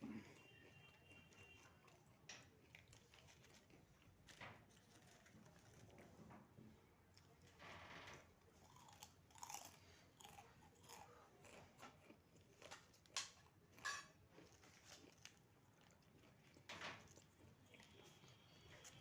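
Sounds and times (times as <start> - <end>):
chips being chewed: 0.2 - 6.2, 8.6 - 19.0.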